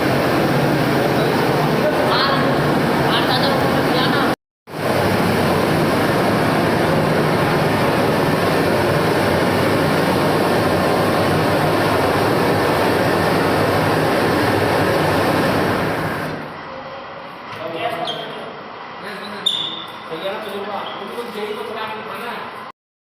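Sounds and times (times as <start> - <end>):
furnace burner rushing: 0.0 - 22.7.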